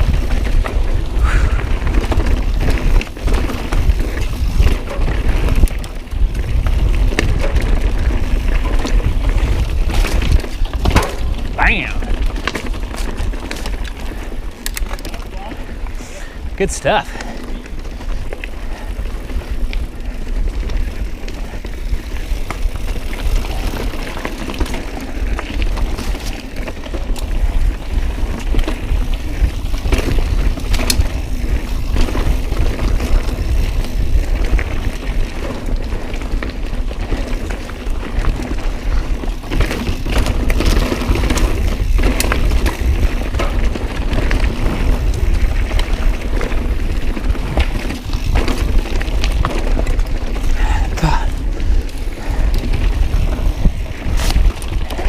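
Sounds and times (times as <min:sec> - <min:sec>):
bike clicking and knocking over rocks: 0:00.0 - 0:15.9, 0:17.2 - 0:55.0
low rumble of tyres and wind: 0:00.0 - 0:55.0.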